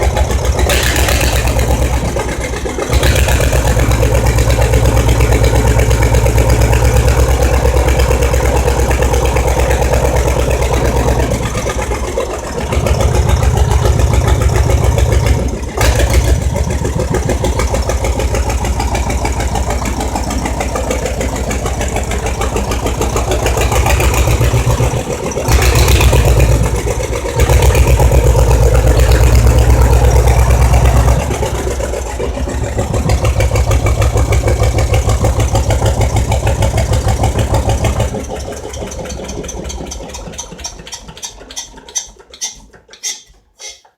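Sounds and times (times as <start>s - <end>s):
tractor diesel engine running: 0.0s - 43.8s.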